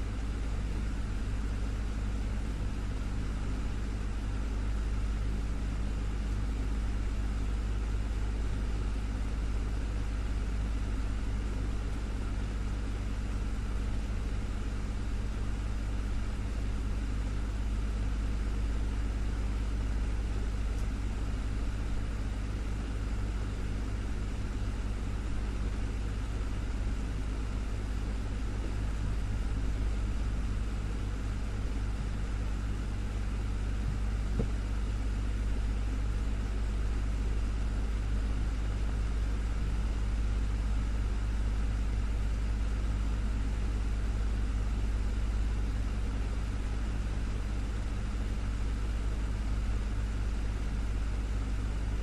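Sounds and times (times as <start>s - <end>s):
desktop fan running: 0.0s - 52.0s.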